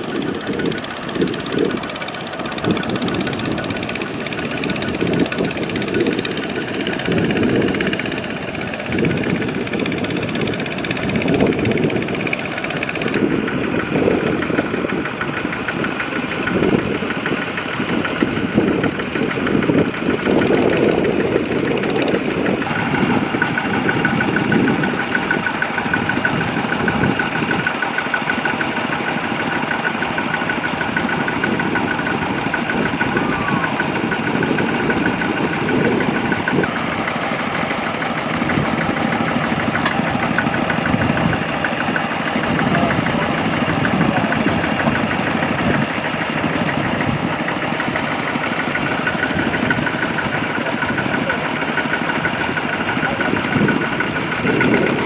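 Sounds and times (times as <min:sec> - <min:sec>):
tractor diesel engine clattering: 0:00.0 - 0:55.0.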